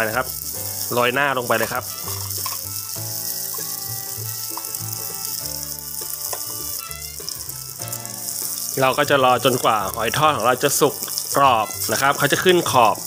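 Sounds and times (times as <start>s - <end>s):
background music with bass line: 0.0s - 13.0s
batter sizzling in oil: 0.0s - 13.0s.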